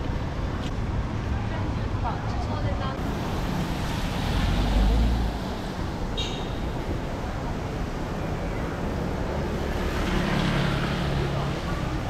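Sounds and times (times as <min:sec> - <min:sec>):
passing vehicles rumble and hiss: 0:00.0 - 0:12.0.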